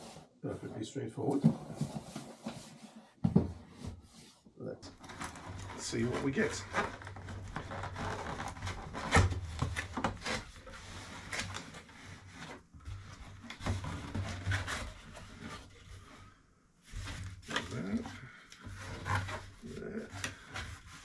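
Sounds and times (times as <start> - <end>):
cardboard rubbing and sliding: 1.3 - 21.0.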